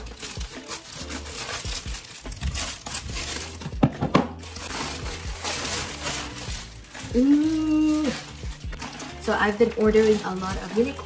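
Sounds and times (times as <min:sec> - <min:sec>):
plastic crinkling and rustling: 0:00.0 - 0:11.0
scissors cutting plastic: 0:00.0 - 0:11.0.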